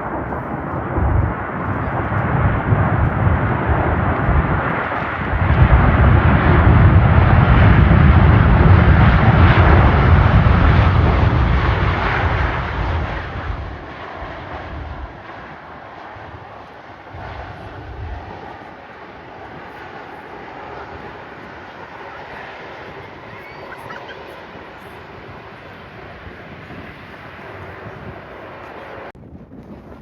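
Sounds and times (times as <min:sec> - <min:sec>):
jet airliner engine noise: 0:00.0 - 0:30.0
wind buffeting microphone: 0:00.0 - 0:30.0.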